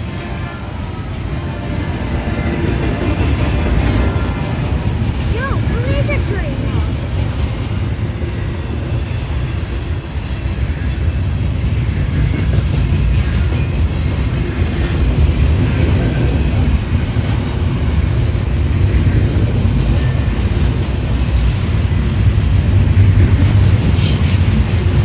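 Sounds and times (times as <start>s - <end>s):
train rumbling past: 0.0s - 25.0s
wheels clicking on rails: 0.0s - 25.0s.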